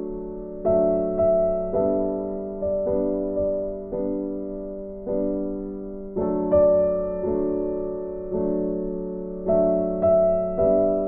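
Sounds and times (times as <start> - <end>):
slow gentle piano music: 0.0 - 11.0.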